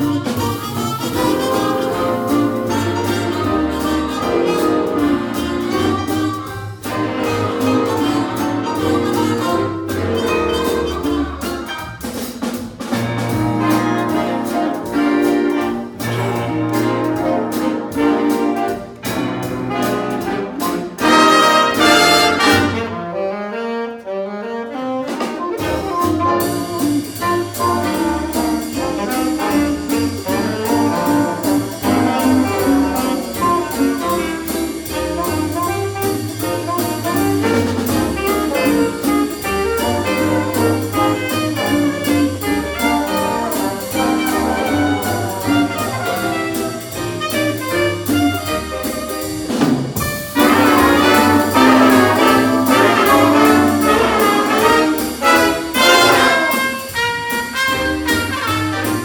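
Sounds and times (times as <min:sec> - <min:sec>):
cymbal beat: 0:00.0 - 0:22.9, 0:26.4 - 0:59.0
walking bass: 0:00.0 - 0:23.3, 0:25.1 - 0:59.0
big band playing swing jazz: 0:00.0 - 0:59.0.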